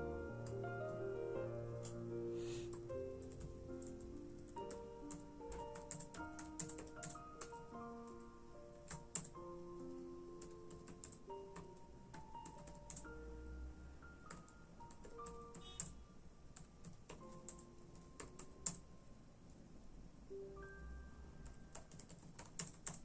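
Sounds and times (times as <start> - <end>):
soft slow music: 0.0 - 22.9.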